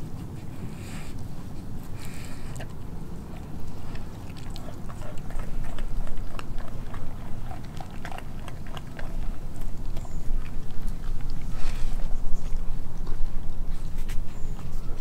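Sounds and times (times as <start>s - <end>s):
dog chewing with wet smacks: 0.0s - 15.0s.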